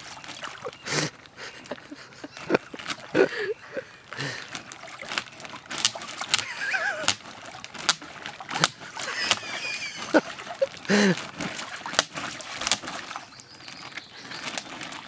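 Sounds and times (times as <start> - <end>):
water splashing around dog: 0.0 - 3.5, 4.1 - 15.0.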